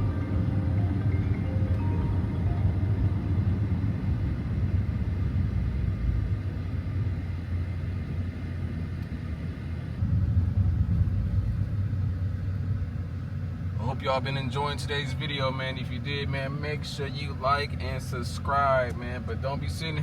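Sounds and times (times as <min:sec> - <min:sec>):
car engine and road noise drone: 0:00.0 - 0:20.0.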